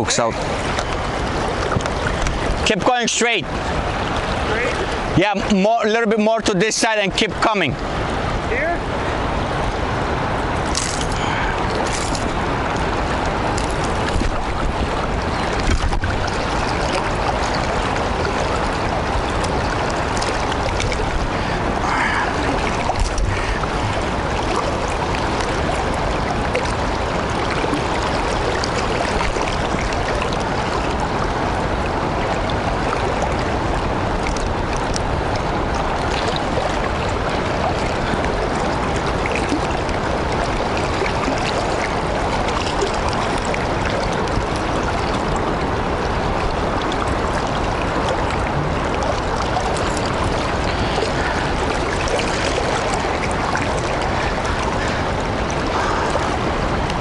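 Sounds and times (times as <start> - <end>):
fast river water rushing: 0.0 - 57.0.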